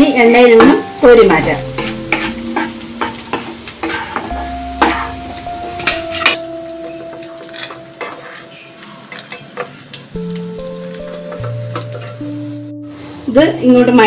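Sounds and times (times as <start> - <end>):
oil sizzling: 0.0 - 14.0
spatula scraping and knocking wok: 0.2 - 12.6.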